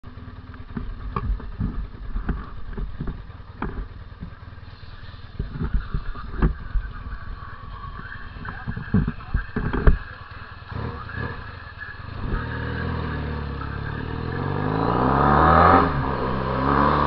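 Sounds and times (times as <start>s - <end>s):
motorcycle exhaust rumbling: 0.0s - 17.0s.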